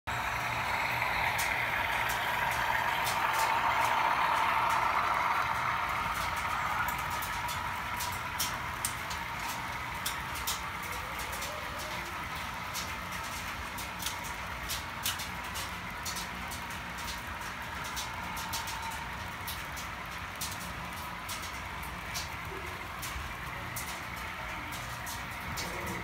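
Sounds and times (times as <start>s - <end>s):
model train cars rolling: 0.1s - 26.0s
wheels clicking over rail joints: 0.1s - 26.0s.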